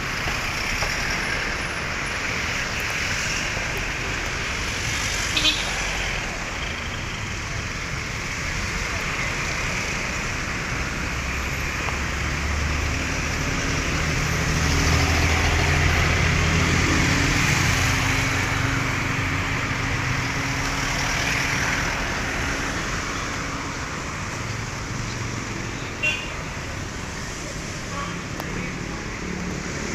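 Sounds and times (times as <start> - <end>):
street traffic noise: 0.0 - 29.9.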